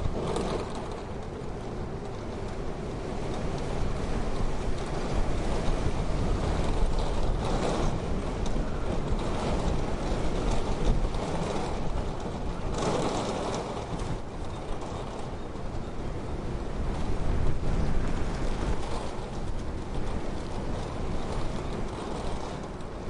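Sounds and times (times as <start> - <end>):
wind blowing in gusts: 0.0 - 23.0.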